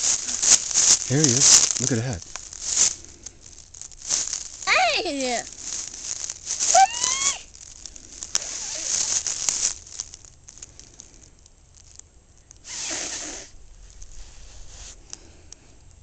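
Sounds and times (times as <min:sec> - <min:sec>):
rustling and handling noises: 0:00.0 - 0:12.7, 0:13.6 - 0:16.0.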